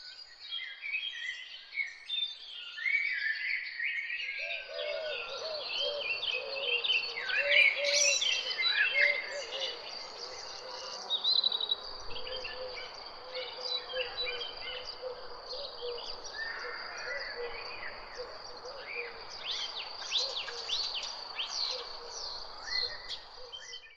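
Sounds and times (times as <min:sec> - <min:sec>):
small birds chirping: 0:04.4 - 0:23.9.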